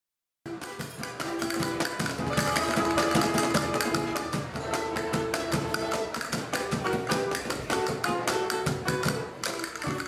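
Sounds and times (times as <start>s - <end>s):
acoustic guitar strumming: 0.5s - 10.0s.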